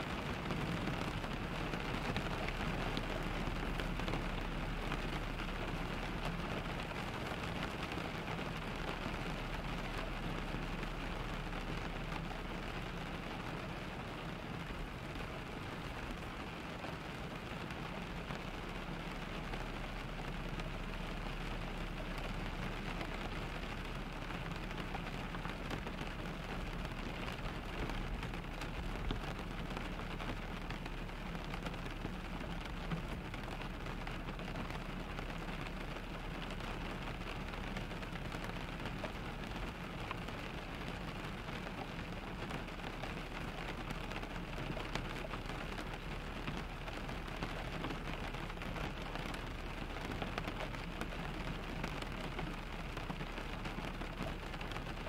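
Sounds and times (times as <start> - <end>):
rain pattering on a car: 0.0 - 55.0.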